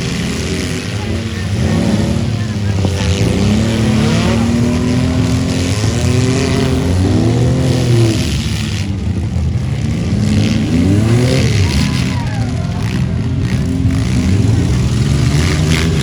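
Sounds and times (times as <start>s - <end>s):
small truck engines revving: 0.0s - 16.0s.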